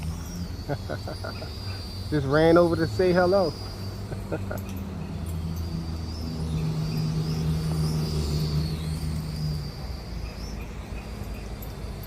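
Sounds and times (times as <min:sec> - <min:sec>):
toy quadcopter motors whining: 0:00.0 - 0:12.0.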